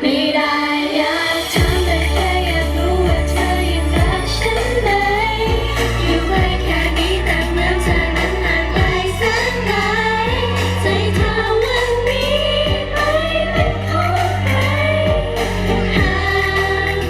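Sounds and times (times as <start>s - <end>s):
pop song with singing: 0.0s - 17.0s.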